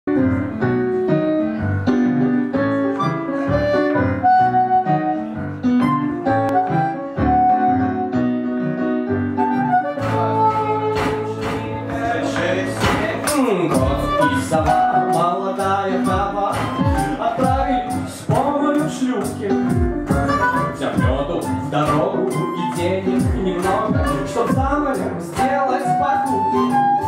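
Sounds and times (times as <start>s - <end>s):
piano chords: 0.1s - 27.0s
harmonica melody: 2.8s - 27.0s.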